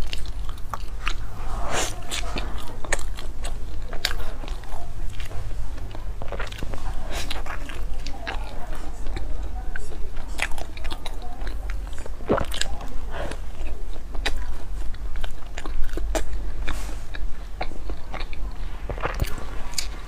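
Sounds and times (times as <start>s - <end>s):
biting and chewing bread: 0.0s - 20.0s.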